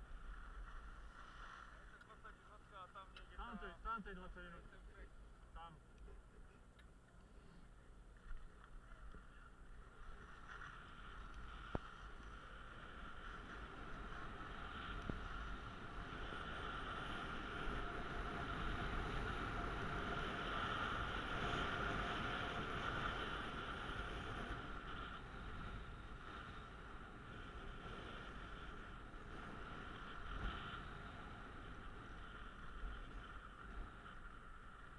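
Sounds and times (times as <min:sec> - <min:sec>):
skis scraping over snow: 0:00.0 - 0:03.8, 0:08.5 - 0:34.9.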